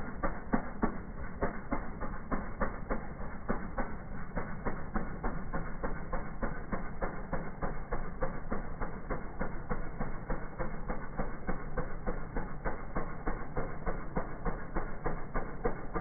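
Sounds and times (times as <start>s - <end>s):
rapid even clatter: 0.0s - 16.0s
snowblower engine running: 0.0s - 16.0s.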